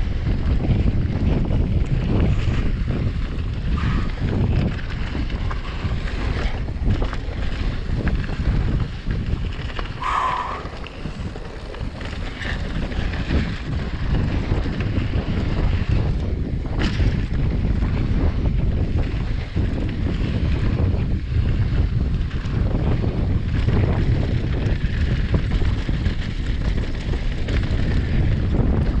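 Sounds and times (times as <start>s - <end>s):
bike knocking and rattling: 0.0s - 29.0s
bike tyres rumbling on dirt: 0.0s - 29.0s
wind buffeting microphone: 0.0s - 29.0s.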